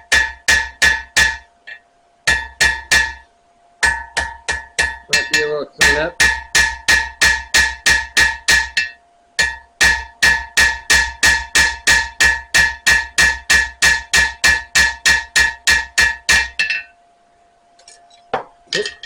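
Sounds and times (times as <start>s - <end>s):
hammer striking blade on anvil: 0.0s - 3.2s, 3.8s - 16.9s.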